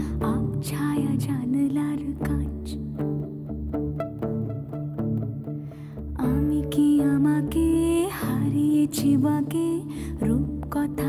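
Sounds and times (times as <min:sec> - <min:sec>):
plucked string notes: 0:00.0 - 0:11.0.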